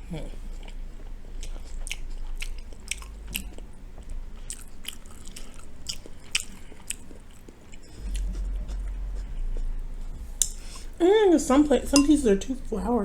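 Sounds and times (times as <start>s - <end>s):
crunchy chewing: 0.0s - 11.0s
low rumble: 0.0s - 13.0s.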